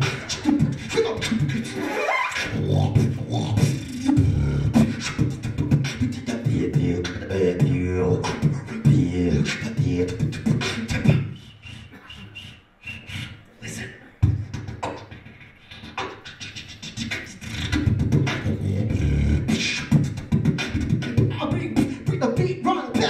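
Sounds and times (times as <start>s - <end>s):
man beatboxing: 0.0s - 23.0s.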